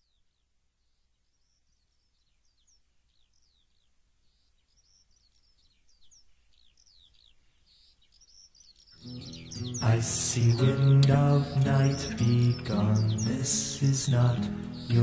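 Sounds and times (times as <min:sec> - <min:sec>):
birds chirping: 0:01.2 - 0:15.0.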